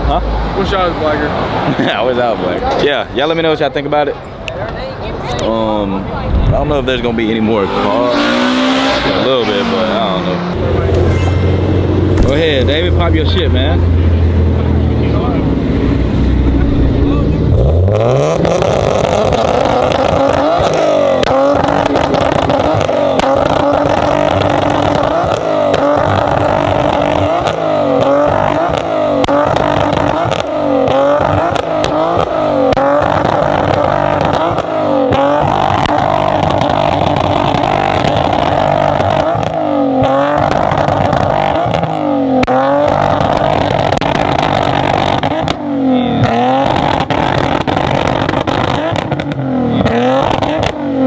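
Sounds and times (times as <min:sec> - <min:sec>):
car engine revving: 0:05.0 - 0:51.0.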